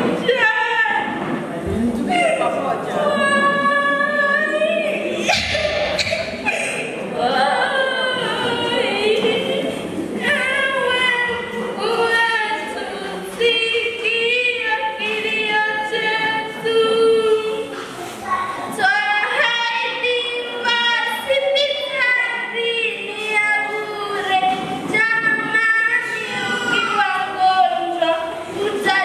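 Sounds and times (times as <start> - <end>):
girl singing into microphone: 0.0 - 29.0.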